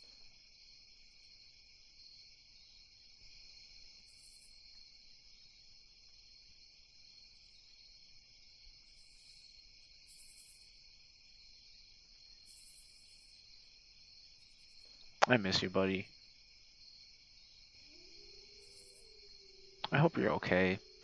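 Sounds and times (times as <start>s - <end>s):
crickets chirping: 0.0s - 21.0s
high-pitched insect trill: 0.0s - 21.0s.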